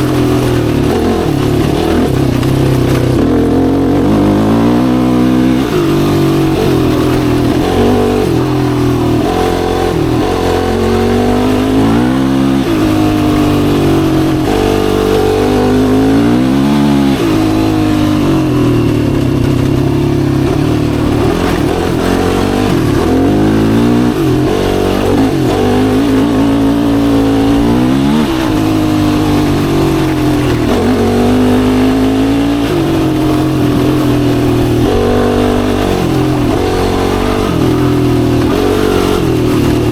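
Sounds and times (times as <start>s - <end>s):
four-stroke engine revving: 0.0s - 39.9s.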